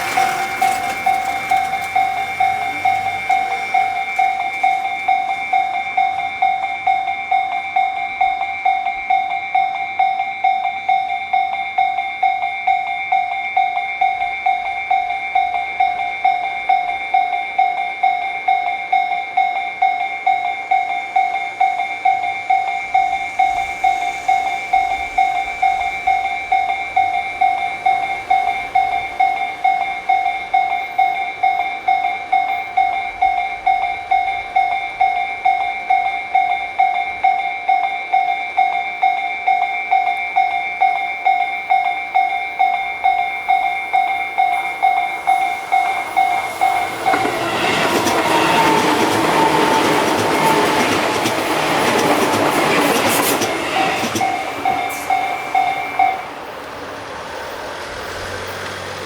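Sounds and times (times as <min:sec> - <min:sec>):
railroad crossing alarm bell: 0:00.0 - 0:59.0
train low rumble: 0:00.0 - 0:59.0.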